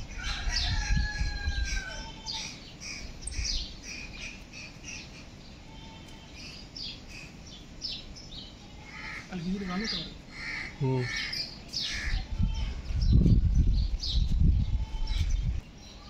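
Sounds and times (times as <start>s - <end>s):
birds chirping and squawking: 0.0s - 16.0s.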